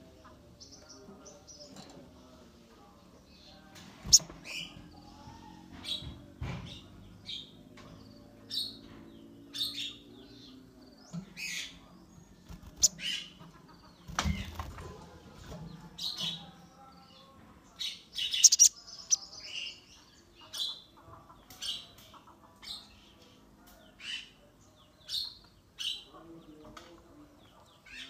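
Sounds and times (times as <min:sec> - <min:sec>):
bird chirping: 0:03.2 - 0:14.6, 0:16.0 - 0:28.0.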